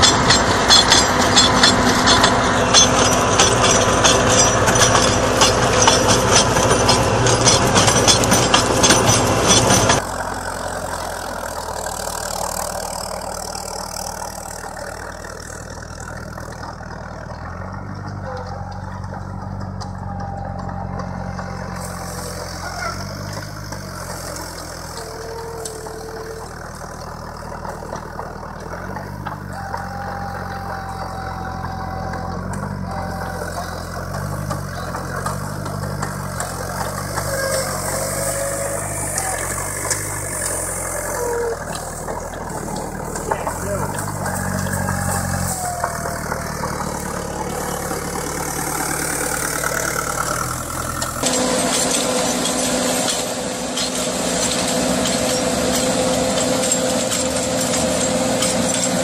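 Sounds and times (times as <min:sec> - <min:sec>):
spading machine working soil: 0:00.0 - 0:59.0
tractor engine under load: 0:00.0 - 0:59.0.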